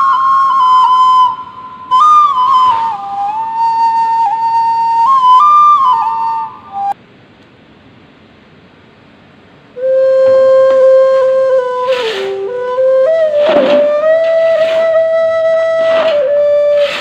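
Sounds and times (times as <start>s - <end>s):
bamboo flute long notes: 0.0s - 7.0s, 9.8s - 17.0s.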